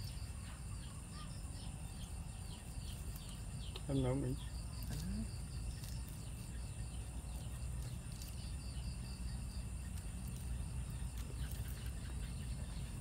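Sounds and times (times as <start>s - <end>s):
insect rapid repeated chirp: 0.0s - 13.0s
insects trilling: 0.0s - 13.0s.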